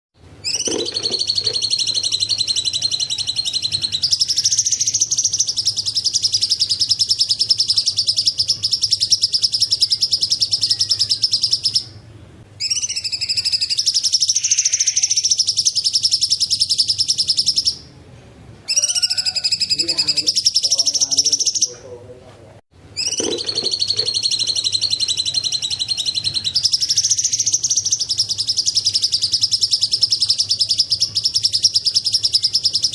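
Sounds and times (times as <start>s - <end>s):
bird singing fast trills: 0.4s - 17.9s, 18.7s - 21.8s, 23.0s - 32.9s.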